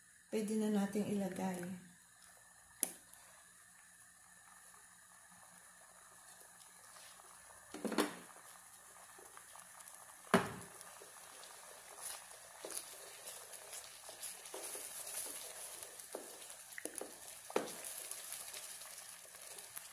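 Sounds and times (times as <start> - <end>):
sauce simmering faintly: 0.0 - 19.9.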